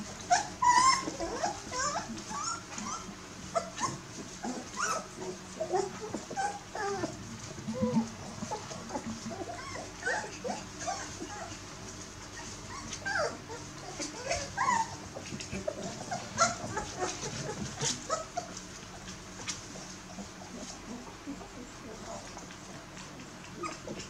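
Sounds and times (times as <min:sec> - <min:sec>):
puppies whimpering and squeaking: 0:00.0 - 0:22.2, 0:23.1 - 0:24.0.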